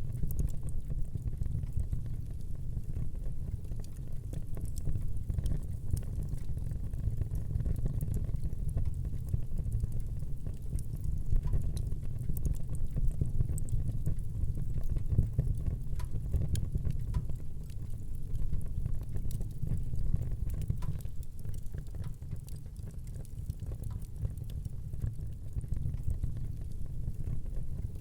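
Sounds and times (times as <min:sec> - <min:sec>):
fire crackles and pops: 0:00.0 - 0:28.0
fire rumbling in fireplace: 0:00.0 - 0:28.0.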